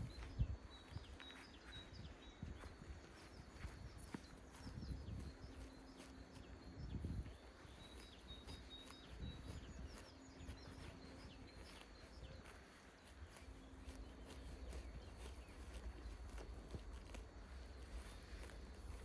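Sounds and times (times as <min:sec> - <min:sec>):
faint low rumble: 0:00.0 - 0:19.0
small birds chirping: 0:00.0 - 0:19.0.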